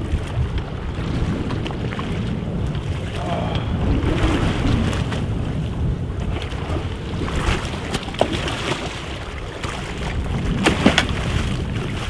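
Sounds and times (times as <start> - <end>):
boat engine rumble: 0.0 - 12.0
water splashing against hull: 0.0 - 12.0.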